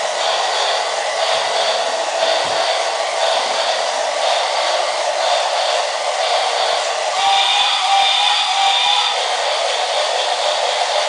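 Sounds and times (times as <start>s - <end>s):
pulsing hiss: 0.0s - 11.0s
toy train motor whir: 0.0s - 11.0s.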